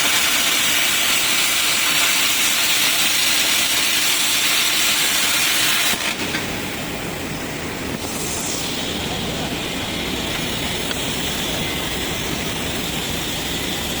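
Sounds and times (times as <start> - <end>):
machine running noise: 0.0 - 14.0
plasma cutting hiss: 0.0 - 14.0.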